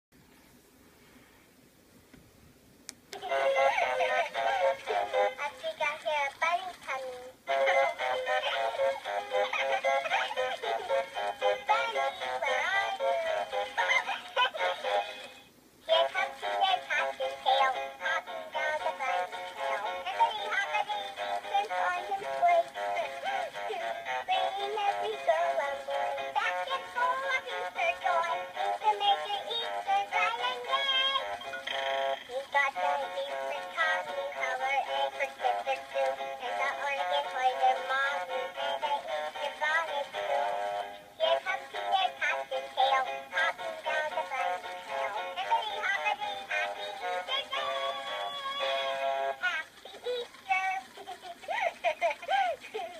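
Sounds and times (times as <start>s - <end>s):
toy speaker playing synthesized song: 3.2s - 52.9s.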